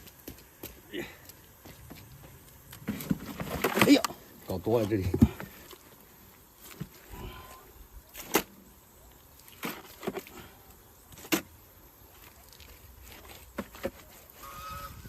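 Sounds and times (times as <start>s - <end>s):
mud scraping: 1.8s - 15.0s.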